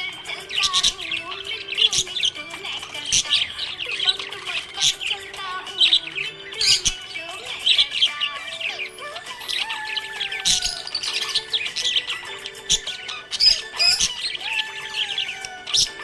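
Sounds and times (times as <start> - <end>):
budgies chirping: 0.0 - 16.0.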